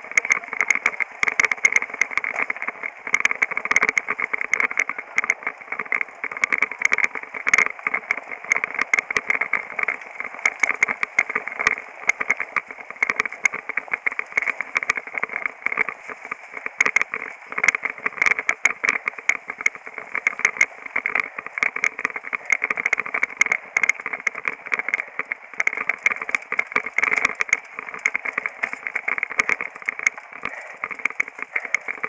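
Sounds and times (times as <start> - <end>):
mountain bike rattling on dirt trail: 0.0 - 32.0.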